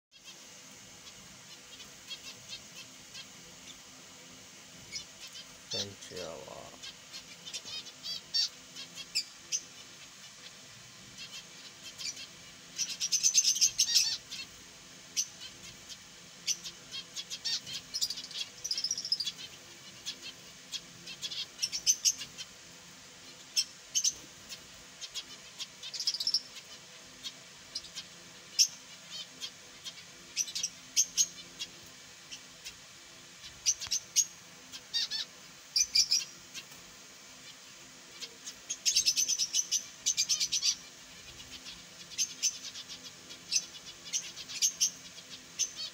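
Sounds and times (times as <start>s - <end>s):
finches chirping: 0.1s - 45.9s.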